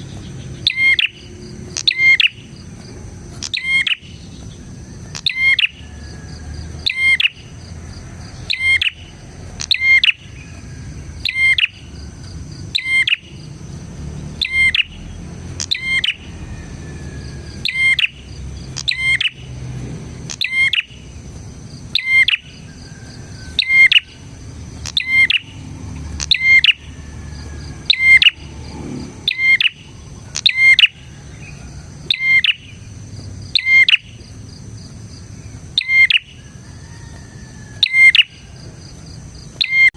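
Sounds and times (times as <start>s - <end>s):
bird singing sharp call: 0.0s - 13.6s, 14.3s - 21.2s, 21.8s - 34.3s, 35.4s - 38.7s, 39.6s - 39.9s.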